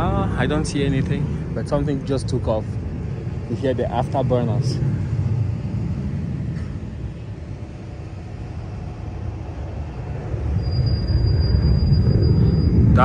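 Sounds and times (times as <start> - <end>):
jet aircraft taking off: 0.0 - 13.0.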